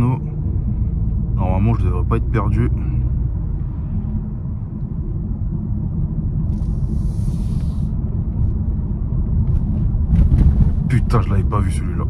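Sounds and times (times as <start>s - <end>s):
low rumble of tyres and engine: 0.0s - 12.0s.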